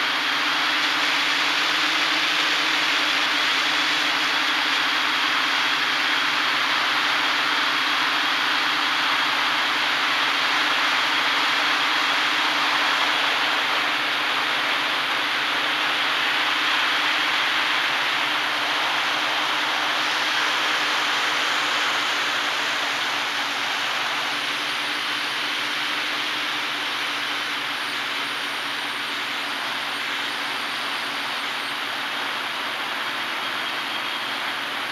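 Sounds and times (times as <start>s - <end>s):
drone motors and propellers whining: 0.0s - 34.9s.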